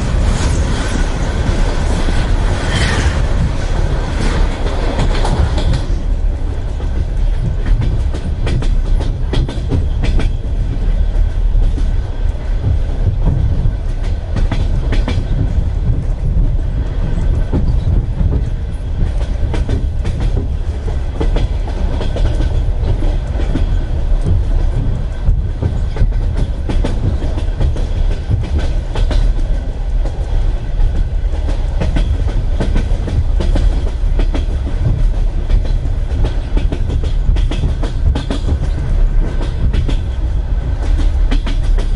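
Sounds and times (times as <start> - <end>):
train coach low rumble: 0.0 - 41.9.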